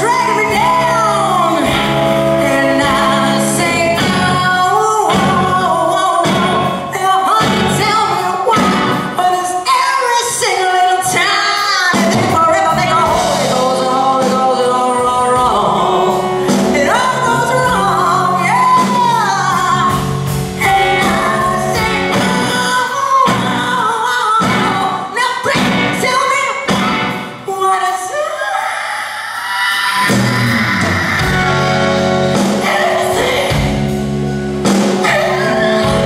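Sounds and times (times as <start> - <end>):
rock band playing: 0.0 - 28.0, 29.7 - 36.0
woman singing blues: 0.0 - 36.0.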